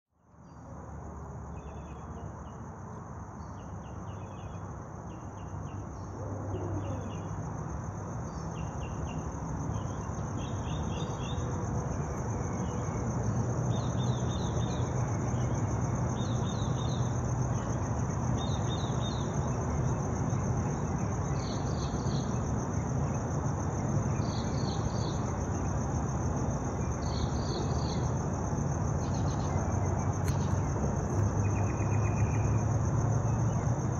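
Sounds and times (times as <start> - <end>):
crickets trilling: 0.2 - 33.9
pulsed insect chirping: 1.4 - 33.9.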